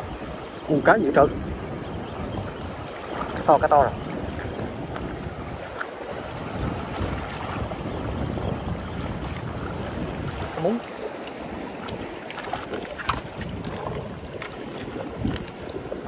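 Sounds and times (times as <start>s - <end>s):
surf on rocky shore: 0.0s - 16.0s
wind buffeting microphone: 0.0s - 16.0s.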